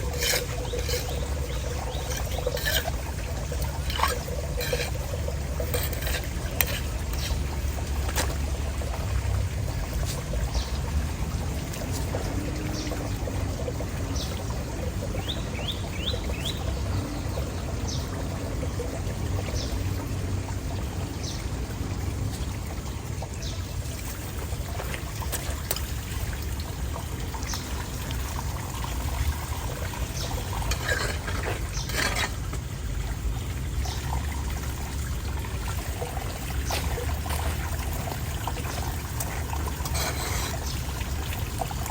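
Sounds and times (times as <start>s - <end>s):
water pouring down storm drain: 0.0s - 41.9s.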